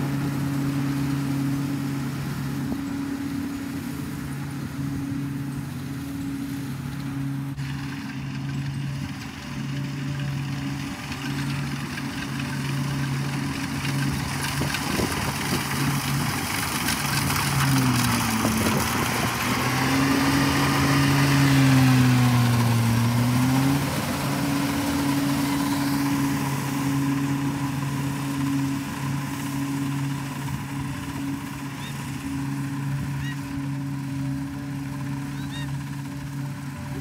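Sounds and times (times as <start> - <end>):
combine harvester diesel engine: 0.0 - 37.0.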